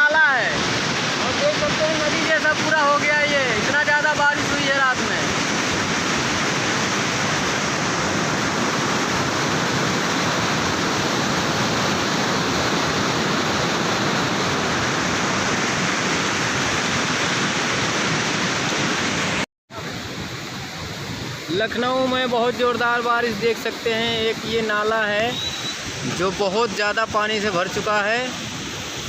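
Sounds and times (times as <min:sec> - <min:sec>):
floodwater rushing in storm drain: 0:00.0 - 0:29.0.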